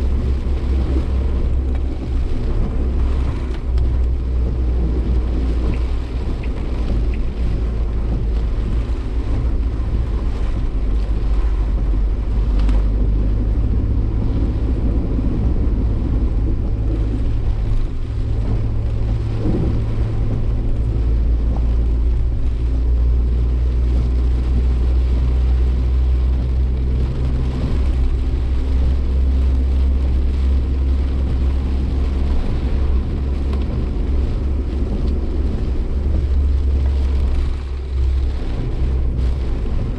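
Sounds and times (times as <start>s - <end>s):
car engine drone inside cabin: 0.0s - 39.9s
road and wind noise: 0.0s - 39.9s.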